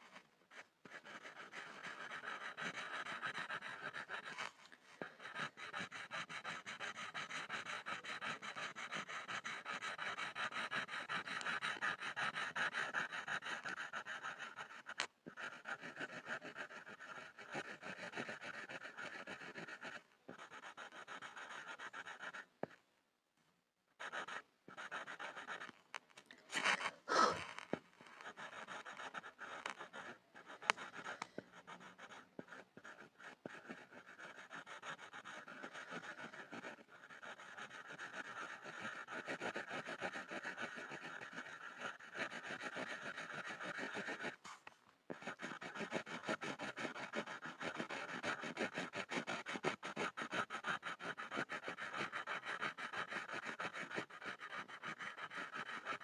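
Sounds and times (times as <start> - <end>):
pencil scribbling on a board: 0.0 - 22.8, 24.0 - 56.0.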